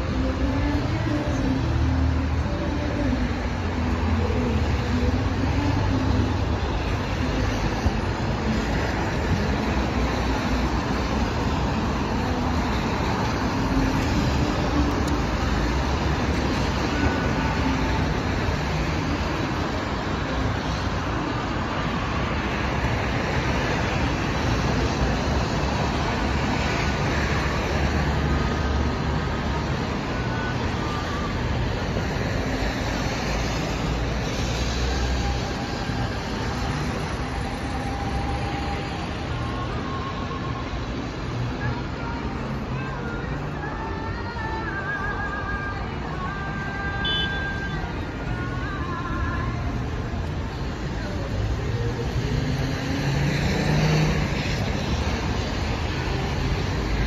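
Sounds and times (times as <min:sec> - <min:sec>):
cars on a wet road: 0:00.0 - 0:57.0.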